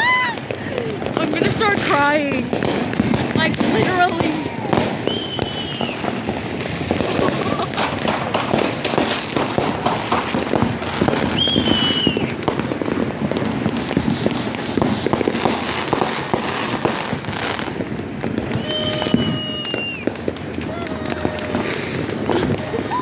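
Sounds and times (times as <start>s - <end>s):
firework whistling: 0.0s - 23.0s
fireworks crackling and popping: 0.0s - 23.0s.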